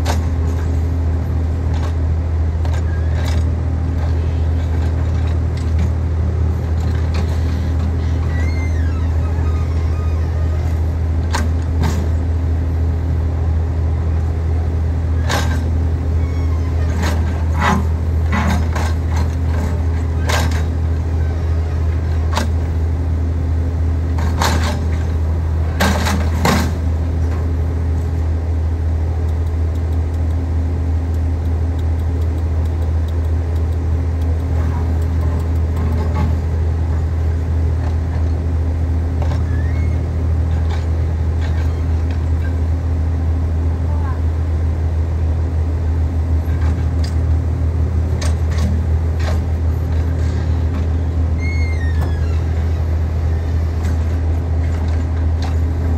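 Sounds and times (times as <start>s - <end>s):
diesel engine humming: 0.0s - 55.9s.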